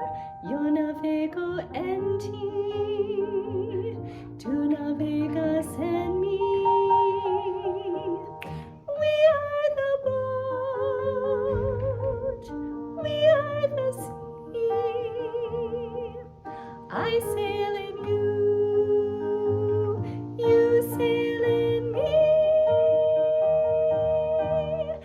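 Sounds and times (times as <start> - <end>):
person singing with vibrato: 0.0 - 25.0.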